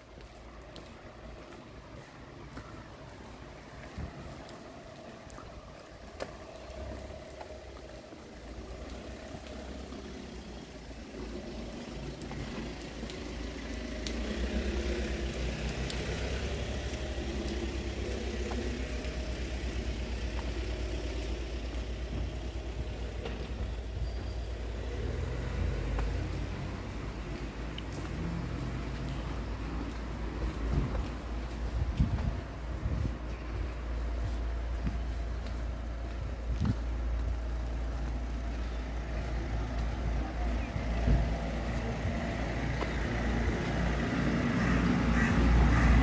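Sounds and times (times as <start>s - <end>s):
low engine rumble: 0.0s - 46.0s
tyres hissing on wet asphalt: 0.0s - 46.0s.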